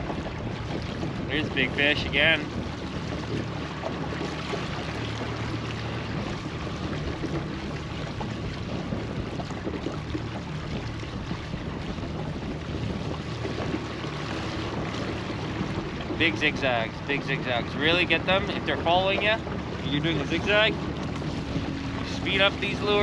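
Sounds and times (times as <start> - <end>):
motorboat motor hum: 0.0 - 23.0
rushing water: 0.0 - 23.0
wind noise: 0.0 - 23.0.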